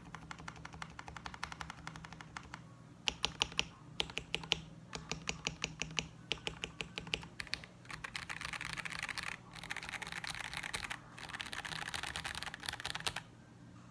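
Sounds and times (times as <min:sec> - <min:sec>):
mechanical keyboard typing: 0:00.0 - 0:13.2.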